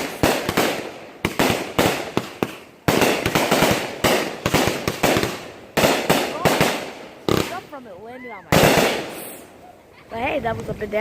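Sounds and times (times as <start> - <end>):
fireworks bangs: 0.0 - 9.6
fireworks crackling: 0.0 - 11.0.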